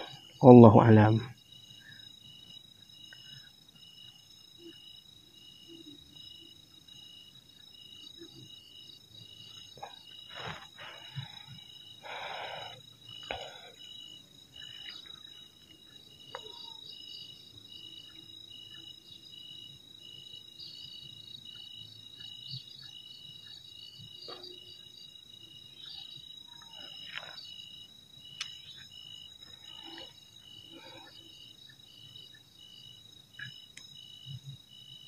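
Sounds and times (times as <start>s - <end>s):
crickets trilling: 0.0s - 35.0s
insect chirping: 0.0s - 35.0s.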